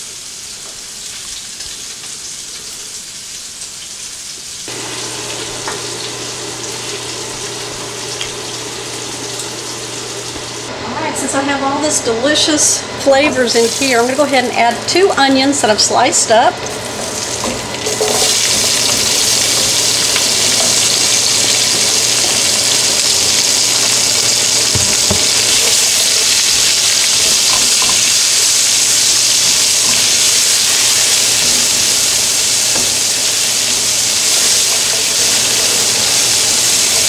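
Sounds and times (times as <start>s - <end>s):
onions sizzling in a skillet: 0.0s - 10.7s, 16.8s - 37.0s.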